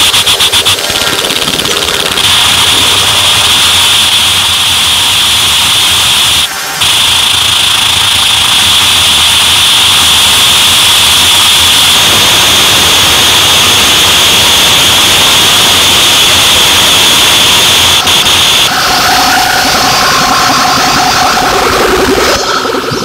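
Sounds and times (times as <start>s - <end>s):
harsh distorted noise music: 0.0s - 23.0s.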